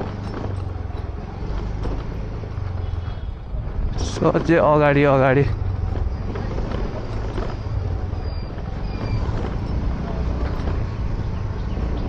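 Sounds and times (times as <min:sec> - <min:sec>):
road and wind noise: 0:00.0 - 0:12.0
scooter engine hum: 0:00.0 - 0:12.0.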